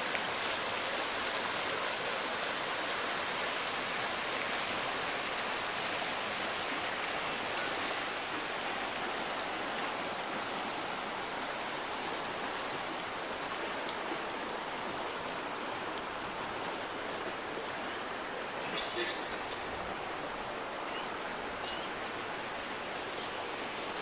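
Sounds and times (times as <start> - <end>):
river rushing over stones: 0.0 - 24.0.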